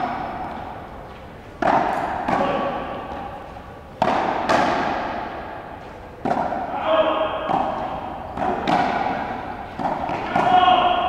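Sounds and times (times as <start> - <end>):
ball smacking racquets and wall: 0.0 - 11.0.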